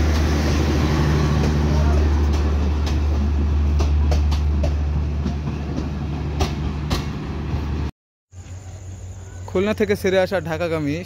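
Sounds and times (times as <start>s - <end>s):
train coaches rolling past: 0.0s - 11.0s.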